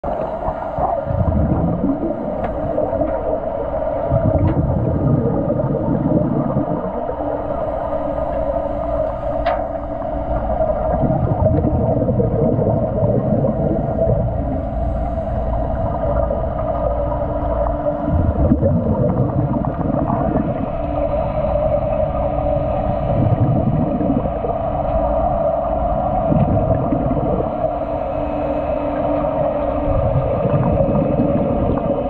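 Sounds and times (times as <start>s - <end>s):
exhaled scuba bubbles gushing: 0.0s - 32.0s
steady underwater hum: 0.0s - 32.0s.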